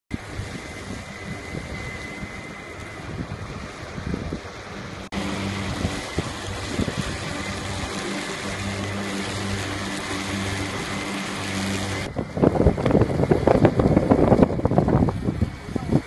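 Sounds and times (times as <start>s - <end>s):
mower motor and blades humming: 0.1s - 16.0s
wind noise on microphone: 0.1s - 16.0s.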